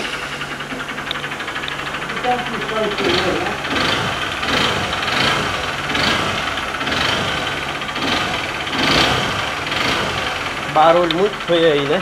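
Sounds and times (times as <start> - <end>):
motorcycle engine knocking: 0.0 - 12.0.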